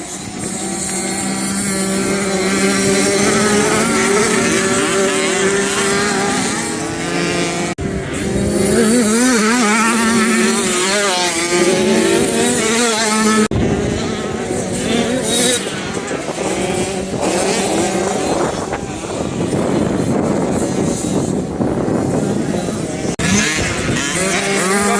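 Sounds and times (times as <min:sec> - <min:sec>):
motocross bike engines revving: 0:00.0 - 0:24.9.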